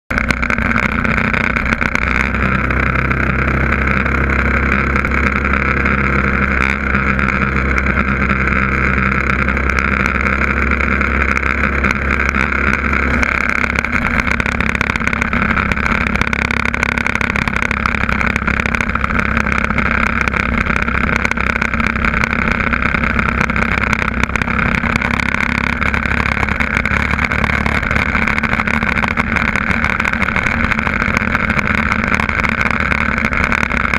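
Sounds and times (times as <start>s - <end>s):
motorcycle engine running: 0.0s - 33.9s
wind and road noise: 0.1s - 33.9s.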